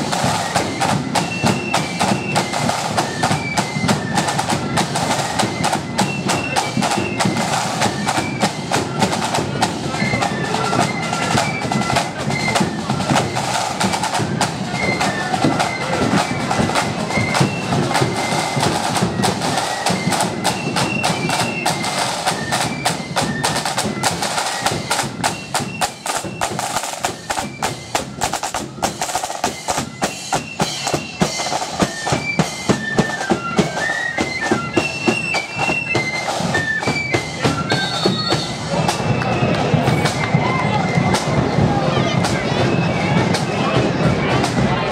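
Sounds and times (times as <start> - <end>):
high flute melody: 0.0 - 44.9
side drums beating: 0.0 - 44.9.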